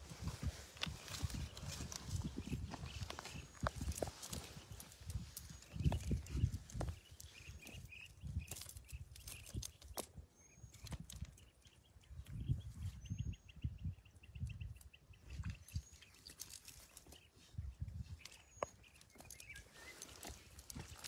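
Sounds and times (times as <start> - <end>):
small birds chirping: 0.1 - 21.0.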